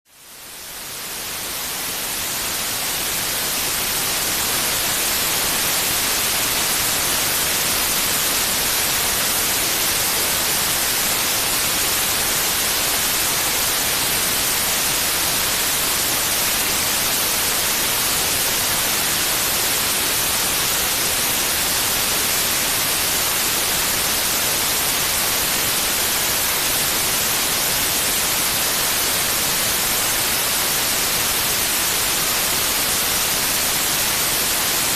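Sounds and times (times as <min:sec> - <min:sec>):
steady white noise hiss: 0:00.1 - 0:34.9.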